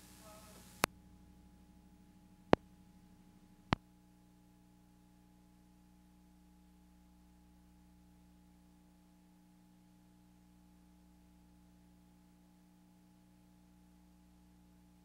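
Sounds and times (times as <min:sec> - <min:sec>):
faint electrical hum: 0:00.0 - 0:15.0
tape hiss: 0:00.0 - 0:15.0.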